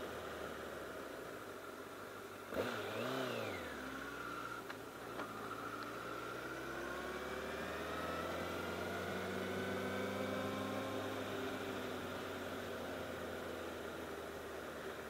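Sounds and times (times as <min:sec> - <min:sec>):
motorcycle engine revving: 0:02.5 - 0:14.7.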